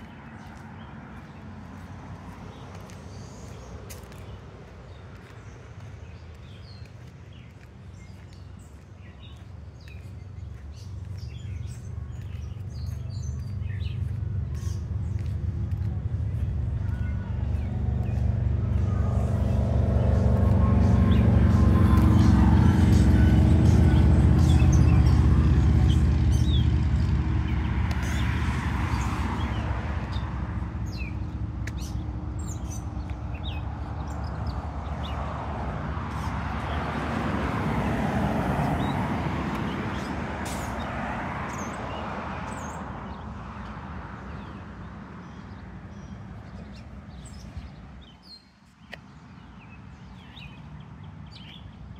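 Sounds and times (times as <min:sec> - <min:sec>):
small birds chirping: 0:00.0 - 0:37.1, 0:38.6 - 0:51.9
cars passing: 0:00.0 - 0:51.9
low engine hum: 0:00.0 - 0:51.9.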